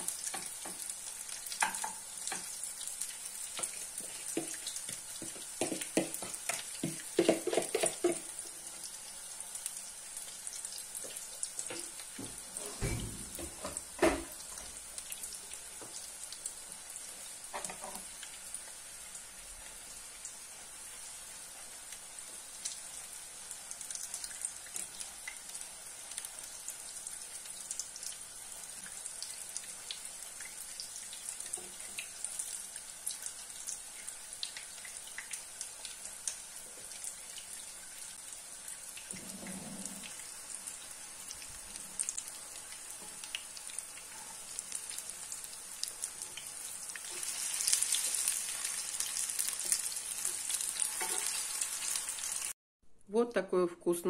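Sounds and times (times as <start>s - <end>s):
patties sizzling in oil: 0.0s - 52.6s.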